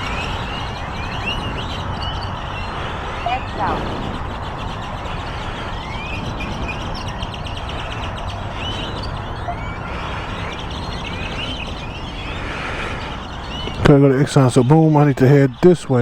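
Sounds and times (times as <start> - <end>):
birds chirping: 0.0 - 16.0
vehicle rumble: 0.0 - 16.0.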